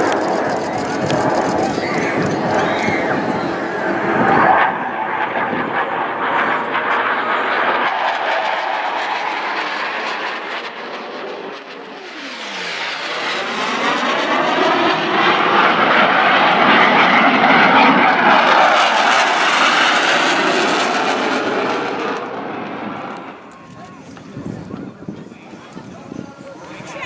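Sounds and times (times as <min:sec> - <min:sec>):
jet roar: 0:00.0 - 0:27.0
jet whine: 0:00.0 - 0:27.0.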